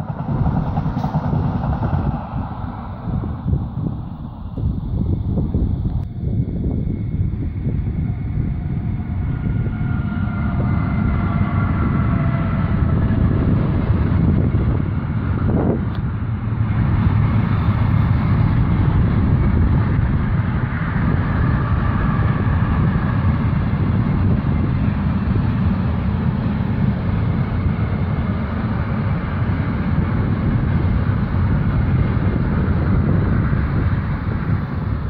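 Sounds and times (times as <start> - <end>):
train wheels rumbling on rails: 0.0 - 35.0
wind buffeting microphone: 0.0 - 35.0.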